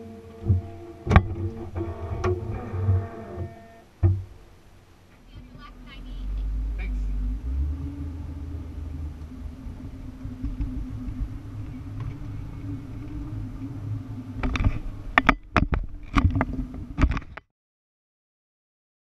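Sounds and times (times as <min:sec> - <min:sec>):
car cabin drone while driving: 0:00.0 - 0:17.3.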